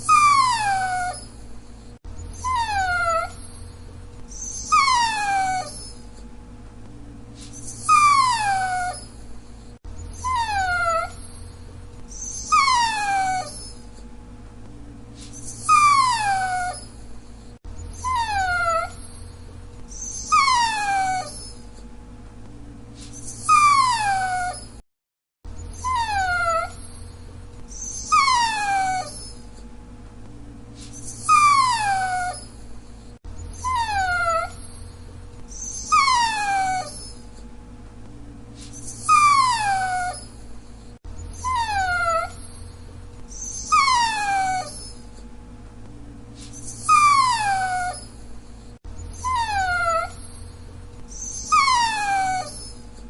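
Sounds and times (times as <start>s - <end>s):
dog whining: 0.0s - 6.3s, 7.4s - 14.1s, 15.2s - 21.9s, 23.0s - 24.8s, 25.5s - 29.7s, 30.8s - 37.5s, 38.6s - 45.3s, 46.4s - 53.0s.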